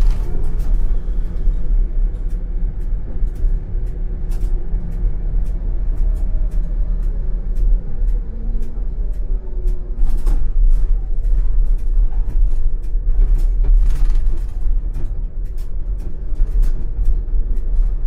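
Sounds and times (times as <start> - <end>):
sharp clicks: 0.0 - 18.0
tram rumble: 0.0 - 18.0.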